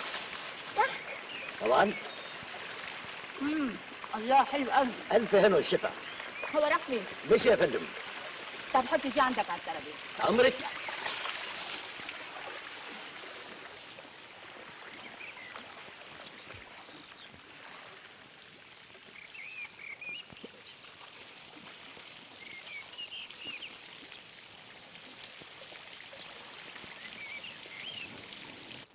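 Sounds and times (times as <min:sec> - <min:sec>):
small birds chirping: 0:00.0 - 0:28.8
pool water lapping: 0:00.0 - 0:28.9.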